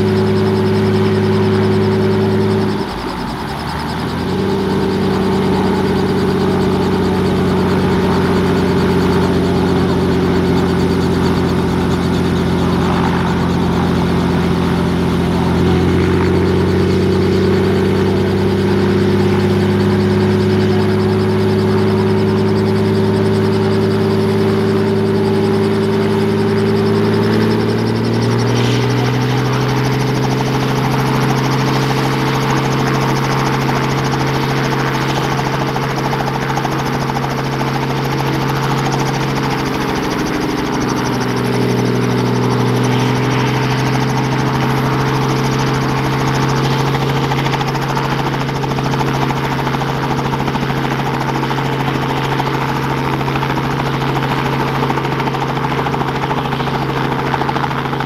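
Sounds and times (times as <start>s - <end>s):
helicopter engine running: 0.0s - 58.0s
main rotor turning: 0.0s - 58.0s.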